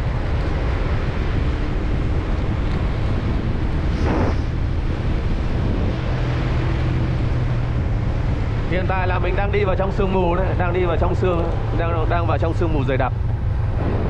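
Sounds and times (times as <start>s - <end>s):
moving vehicle hum: 0.0s - 14.0s
wind buffeting microphone: 0.0s - 14.0s.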